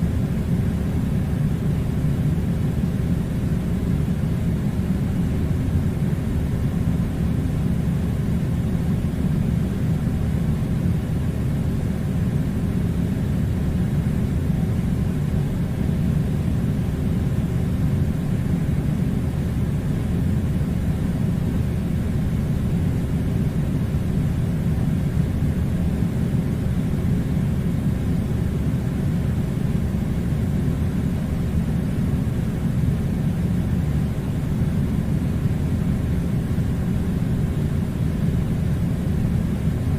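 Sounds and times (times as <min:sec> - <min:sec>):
air conditioner rumble: 0:00.0 - 0:39.9.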